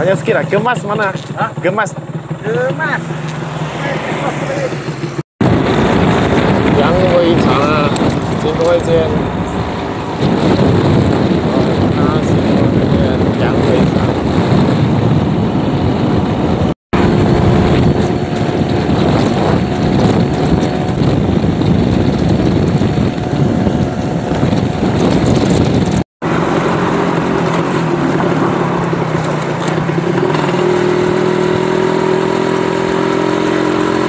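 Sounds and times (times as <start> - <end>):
motorcycle engine: 0.0 - 34.0
wind rush on microphone: 3.3 - 34.0.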